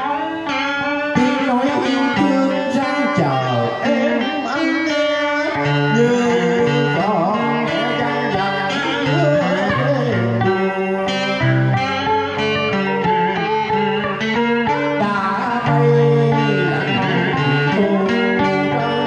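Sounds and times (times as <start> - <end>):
man singing into a microphone: 0.0 - 13.6, 14.6 - 19.0
electric guitar: 0.0 - 19.0.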